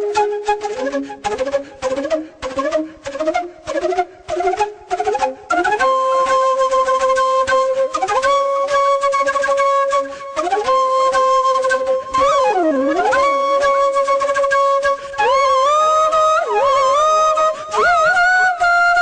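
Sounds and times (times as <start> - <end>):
bamboo flute melody: 0.0 - 19.0.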